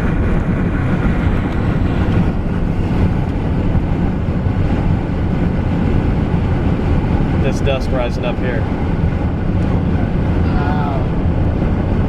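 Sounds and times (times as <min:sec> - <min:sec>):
car driving rumble: 0:00.0 - 0:12.0
road and wind noise: 0:00.0 - 0:12.0.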